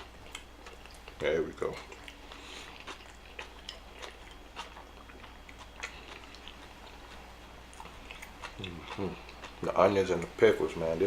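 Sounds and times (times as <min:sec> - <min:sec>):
chewing food: 0:00.0 - 0:10.7.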